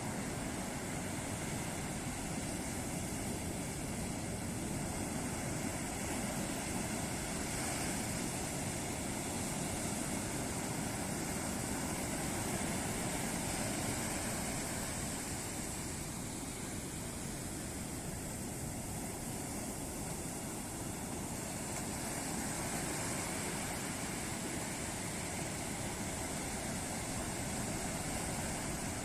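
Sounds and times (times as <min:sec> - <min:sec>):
ocean surf breaking on a beach: 0:00.0 - 0:29.0.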